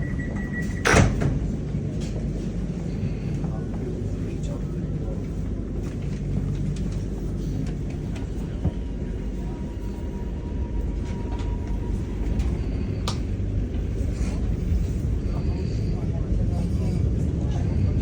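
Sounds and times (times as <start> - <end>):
electric train rumbling on track: 0.0 - 18.0.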